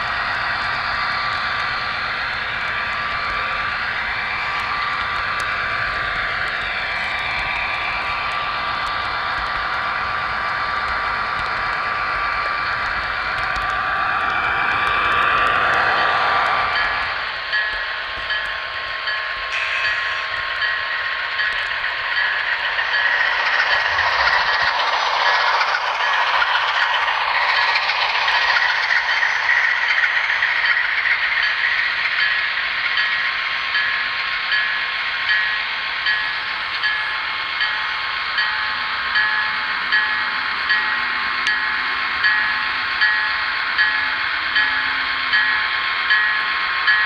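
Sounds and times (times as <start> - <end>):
train rushing hiss: 0.0 - 47.0.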